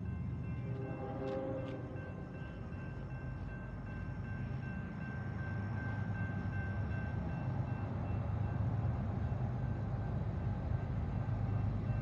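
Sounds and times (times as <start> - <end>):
approaching train rumble: 0.0 - 12.0
crossing warning bell ringing: 0.0 - 12.0.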